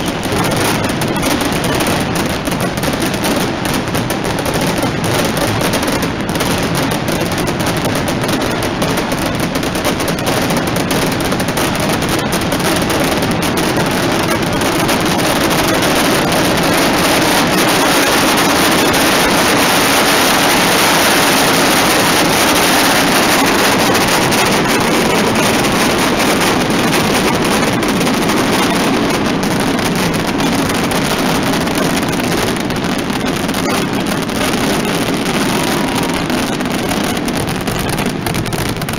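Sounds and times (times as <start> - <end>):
firecrackers banging densely: 0.0 - 38.9.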